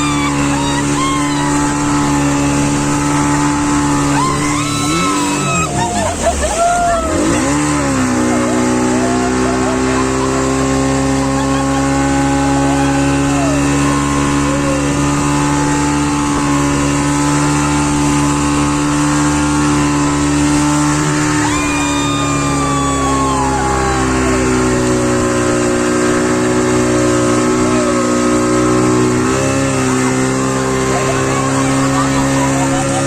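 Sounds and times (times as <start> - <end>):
speedboat engine running: 0.0 - 33.0.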